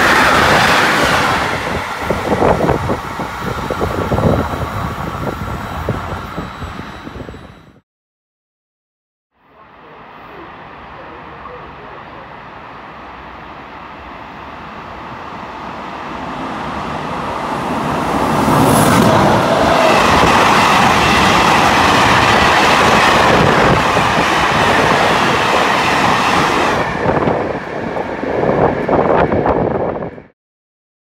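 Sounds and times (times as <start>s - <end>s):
freight train passing: 0.0s - 7.8s, 9.4s - 30.3s.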